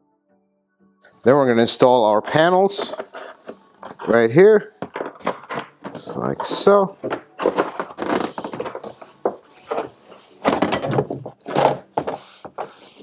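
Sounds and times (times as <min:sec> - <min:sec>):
plastic panels knocking and scraping: 0:02.2 - 0:12.8.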